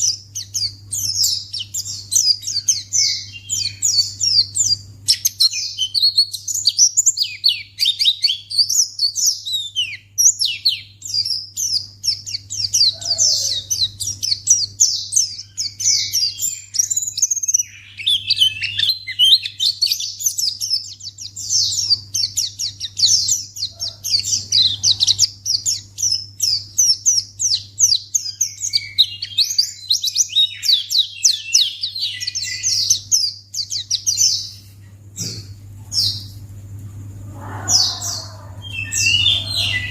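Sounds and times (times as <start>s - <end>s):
bird twittering chirps and trills: 0.0s - 39.9s
steady low hum: 0.0s - 39.9s.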